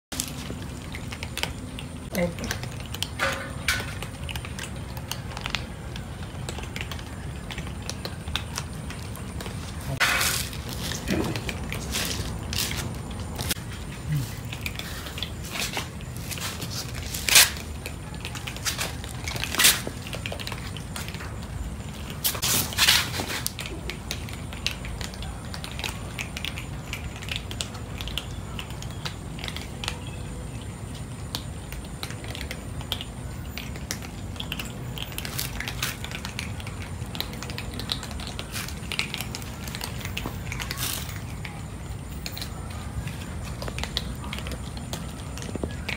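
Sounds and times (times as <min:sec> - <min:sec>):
cats crunching dry kibble: 0:00.1 - 0:45.9.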